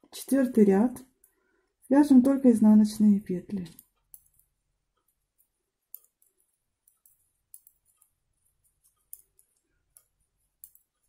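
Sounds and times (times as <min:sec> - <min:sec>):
metal knitting needles clicking: 0:01.2 - 0:11.0.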